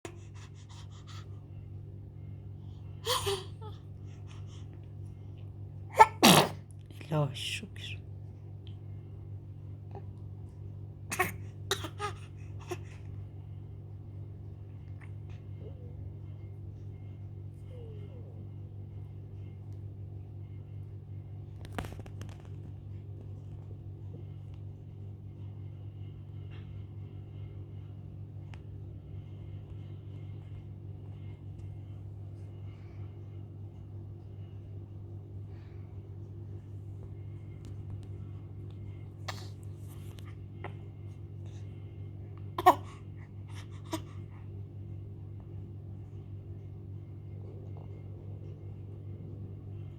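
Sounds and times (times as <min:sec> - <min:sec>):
steady low rumble: 0:00.0 - 0:06.0, 0:12.3 - 0:49.9
steady low hum: 0:00.0 - 0:49.9.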